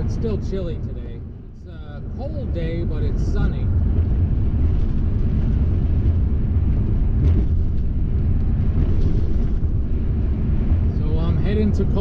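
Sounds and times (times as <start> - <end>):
road noise: 0.0 - 12.0
van engine rumble: 0.0 - 12.0.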